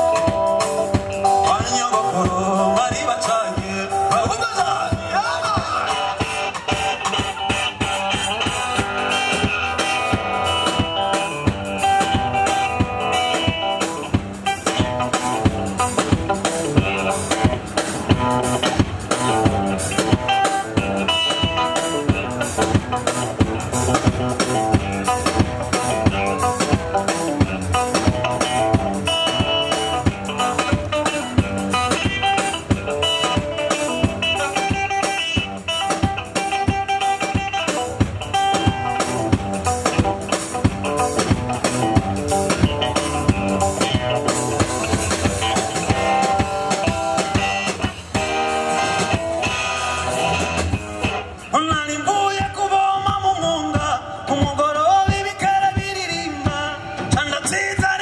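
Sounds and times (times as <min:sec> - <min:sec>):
drum kit beat: 0:00.0 - 0:58.0
electric guitar playing: 0:00.0 - 0:58.0.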